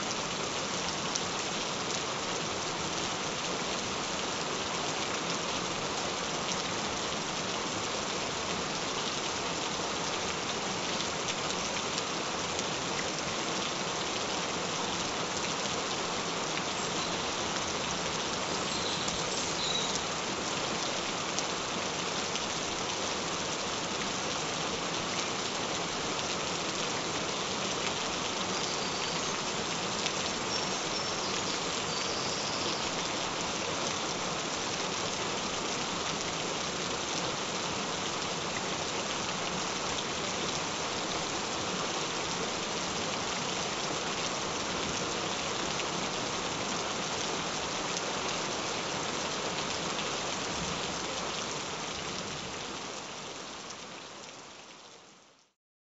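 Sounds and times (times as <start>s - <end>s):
steady rain falling: 0.0s - 55.6s.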